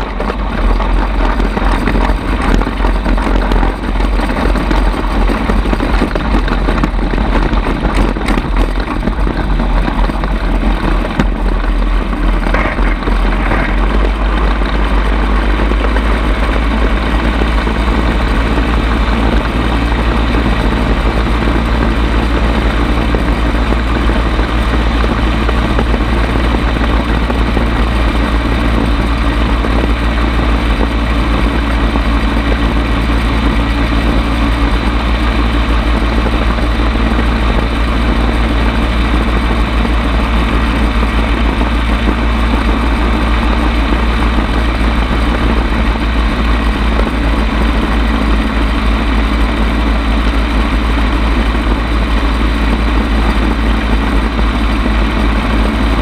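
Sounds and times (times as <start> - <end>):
gyrocopter engine at high power: 0.0 - 56.0
wind rumble on microphone: 0.0 - 56.0.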